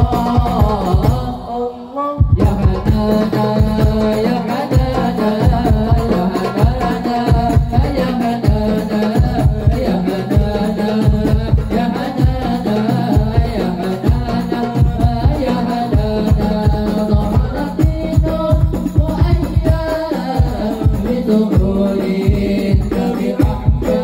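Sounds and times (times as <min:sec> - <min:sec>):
hand drums playing fast rhythm: 0:00.0 - 0:01.5, 0:02.2 - 0:24.0
people singing: 0:00.0 - 0:24.0.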